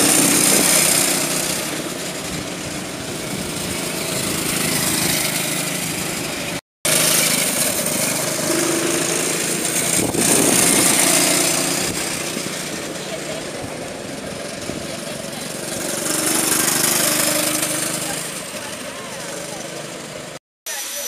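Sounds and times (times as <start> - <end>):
go-kart engines running: 0.0 - 21.0.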